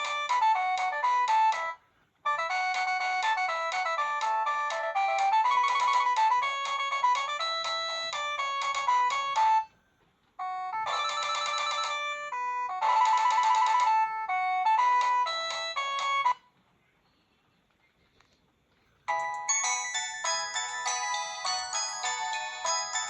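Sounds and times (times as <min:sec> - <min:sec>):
polyphonic ringtone melody: 0:00.0 - 0:09.7, 0:10.4 - 0:16.4, 0:19.1 - 0:23.0.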